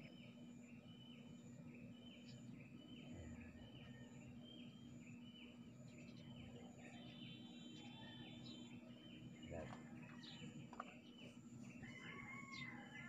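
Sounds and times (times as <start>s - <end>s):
low steady hum: 0.0s - 13.0s
small birds chirping: 0.0s - 13.0s.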